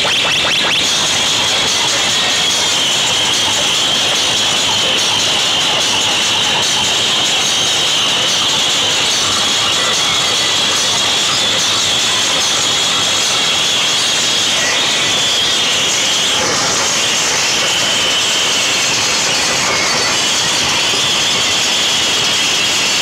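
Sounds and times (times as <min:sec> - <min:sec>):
distorted loud dance music: 0:00.0 - 0:23.0.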